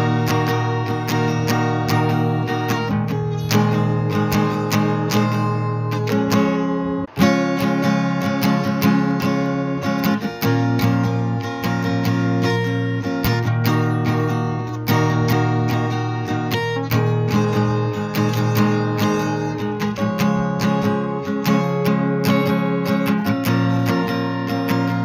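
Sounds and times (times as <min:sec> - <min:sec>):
strummed acoustic guitar music: 0:00.0 - 0:25.0.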